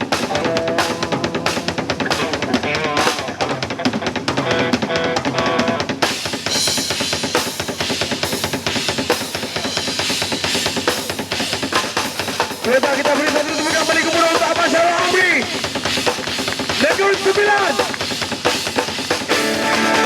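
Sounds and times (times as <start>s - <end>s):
drum kit beat: 0.0s - 20.0s
live band music: 0.0s - 20.0s.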